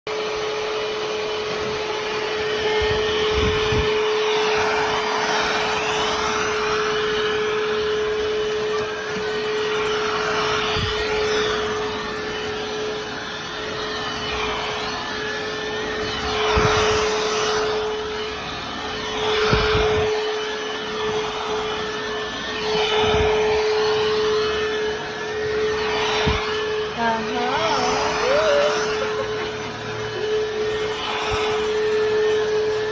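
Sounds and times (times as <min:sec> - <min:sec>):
stick vacuum whine: 0:00.1 - 0:32.9.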